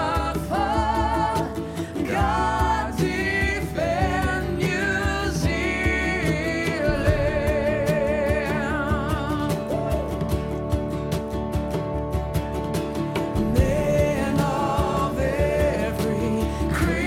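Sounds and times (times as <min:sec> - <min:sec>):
singer with vibrato: 0:00.0 - 0:10.3, 0:13.4 - 0:17.0
steady drum beat and bass: 0:02.2 - 0:17.0.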